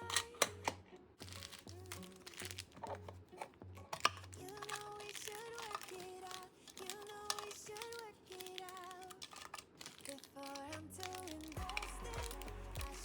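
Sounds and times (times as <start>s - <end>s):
soft pop music: 0.0s - 9.1s, 10.1s - 13.0s
plastic crinkling and clicking: 0.0s - 13.0s.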